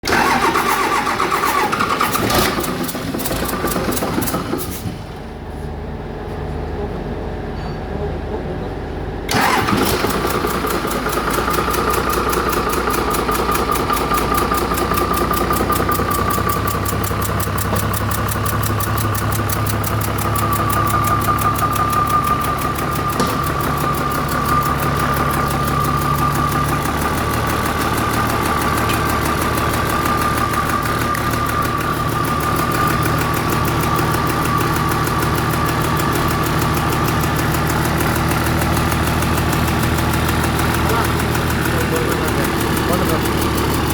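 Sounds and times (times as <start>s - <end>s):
diesel engine starting and running: 0.0s - 43.9s
high engine tone: 0.0s - 43.9s.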